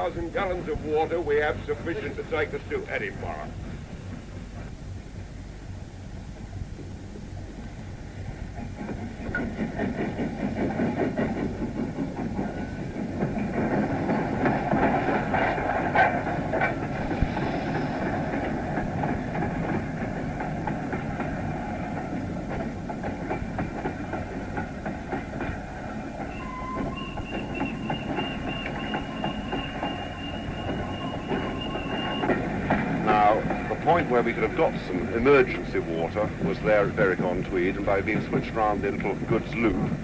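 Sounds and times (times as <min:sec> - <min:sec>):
steady train rumble: 0:00.0 - 0:40.0
train wheels clattering: 0:07.2 - 0:40.0.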